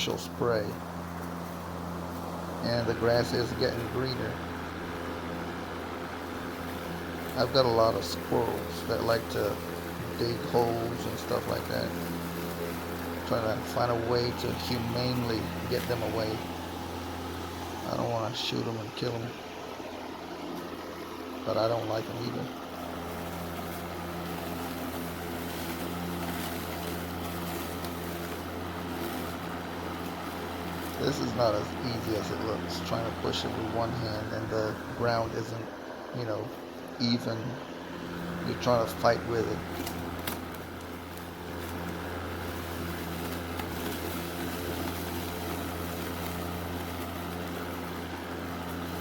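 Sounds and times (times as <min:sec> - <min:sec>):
electric lawn mower running: 0:00.0 - 0:49.0.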